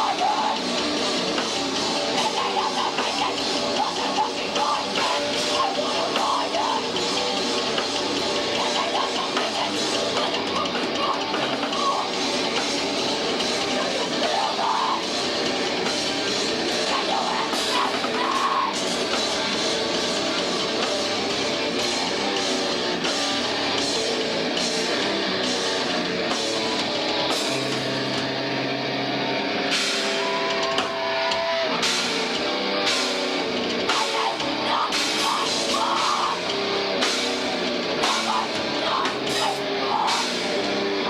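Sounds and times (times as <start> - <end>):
rock band playing live: 0.0 - 41.0.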